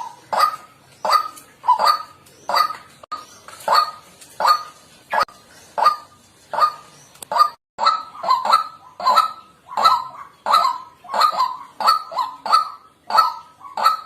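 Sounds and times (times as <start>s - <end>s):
bird honking calls: 0.0s - 14.0s.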